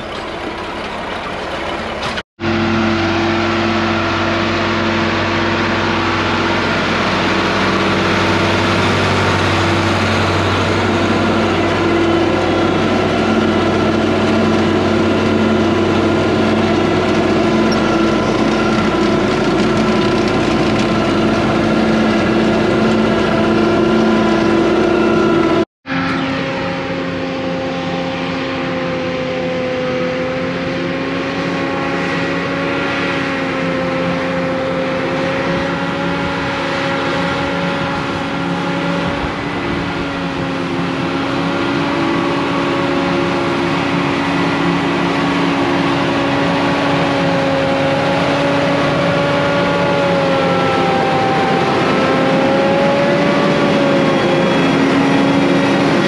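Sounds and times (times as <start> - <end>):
harvesting machinery hum: 0.0 - 56.0
tractor engine: 0.0 - 56.0.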